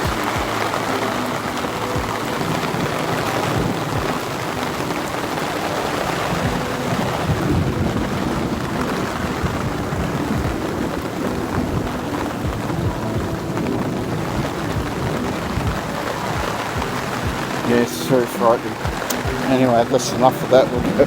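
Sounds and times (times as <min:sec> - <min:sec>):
heavy rain pouring: 0:00.0 - 0:21.0
thunder rumbling: 0:00.0 - 0:21.0.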